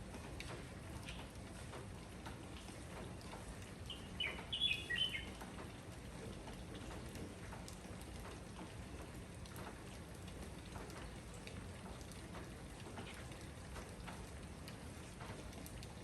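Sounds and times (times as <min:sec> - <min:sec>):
raindrops ticking on surfaces: 0:00.0 - 0:16.0
steady rain shower: 0:00.0 - 0:16.0.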